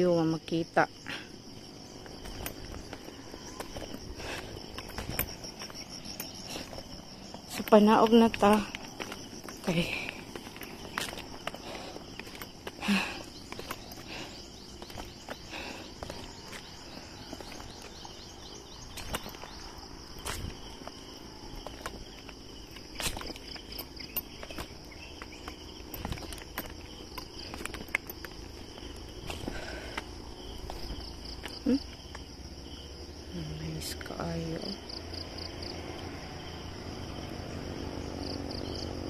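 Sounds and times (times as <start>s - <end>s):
footsteps on stone steps: 0.0s - 33.3s
high-pitched insect chirring: 0.1s - 35.7s.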